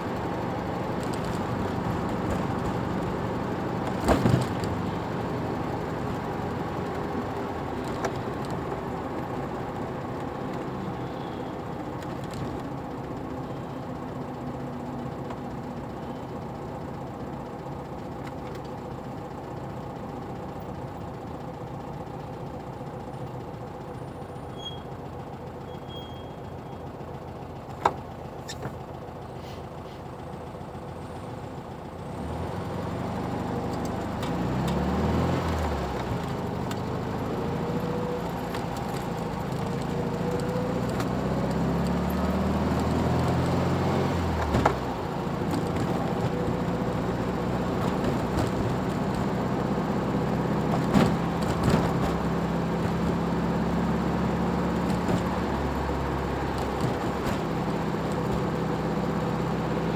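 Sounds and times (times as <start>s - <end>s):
car engine idling and accelerating: 0.0s - 59.9s.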